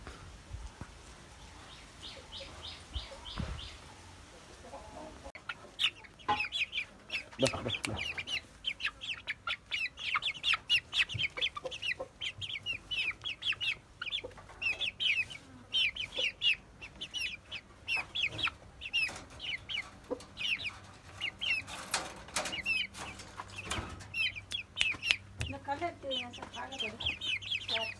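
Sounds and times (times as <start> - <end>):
chickens clucking and peeping: 0.0 - 27.9.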